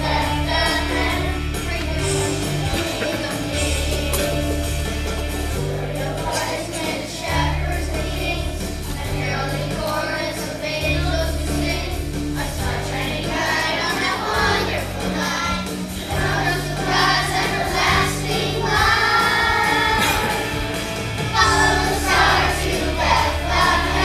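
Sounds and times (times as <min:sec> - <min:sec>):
children's choir singing: 0:00.0 - 0:24.0
instrumental accompaniment: 0:00.0 - 0:24.0.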